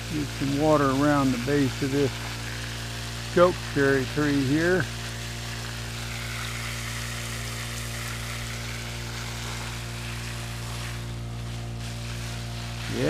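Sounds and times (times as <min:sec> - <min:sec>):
hose spraying water on ground: 0:00.0 - 0:13.0
water pump engine running: 0:00.0 - 0:13.0.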